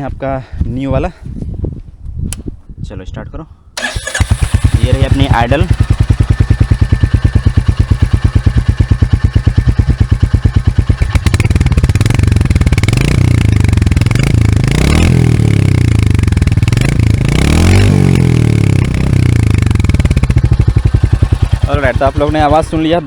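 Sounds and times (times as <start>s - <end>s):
motorcycle engine idling and revving: 3.8s - 23.0s.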